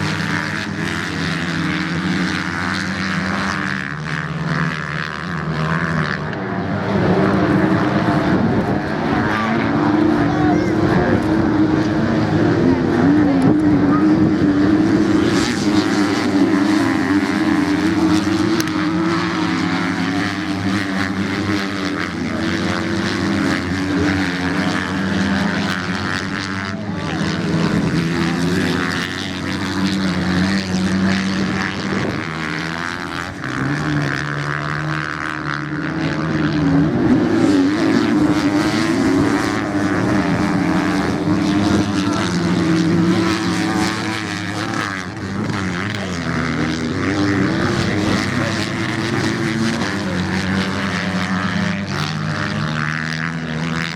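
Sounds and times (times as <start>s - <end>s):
racing motorcycle engines: 0.0s - 53.9s.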